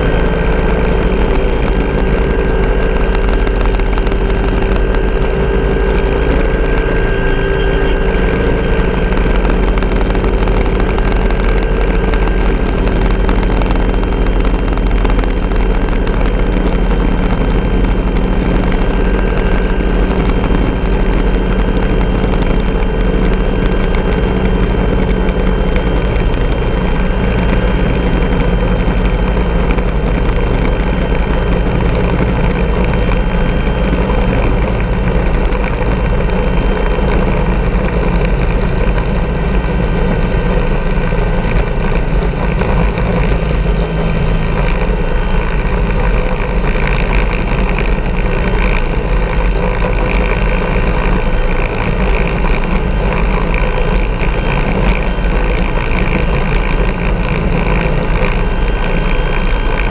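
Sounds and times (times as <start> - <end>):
helicopter engines and rotor: 0.0 - 59.9.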